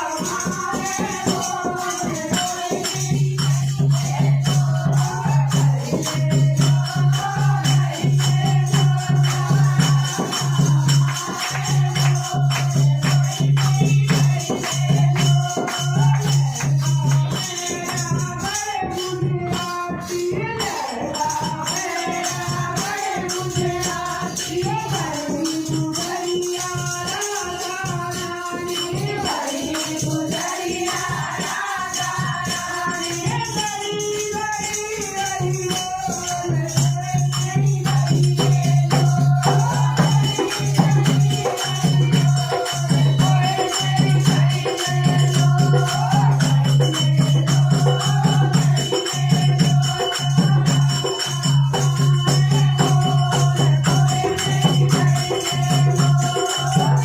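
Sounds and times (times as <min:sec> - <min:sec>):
shaken rattle and jingles: 0:00.0 - 0:57.0
woman singing: 0:00.0 - 0:57.0.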